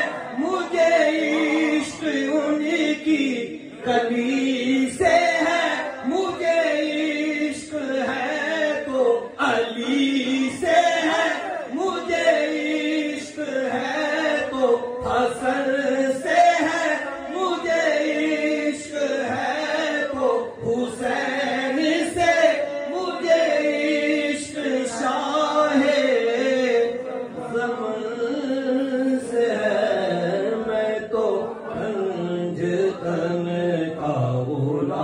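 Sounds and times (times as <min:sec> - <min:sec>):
man singing into microphone: 0:00.0 - 0:35.0.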